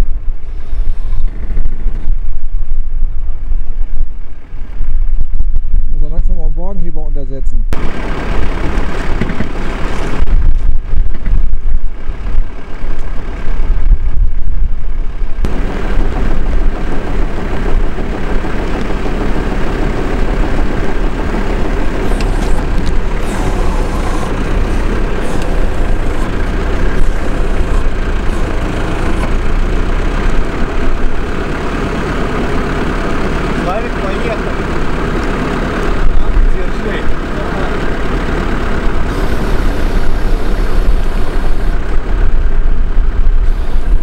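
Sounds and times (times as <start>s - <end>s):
truck engine rumbling: 0.0s - 44.0s.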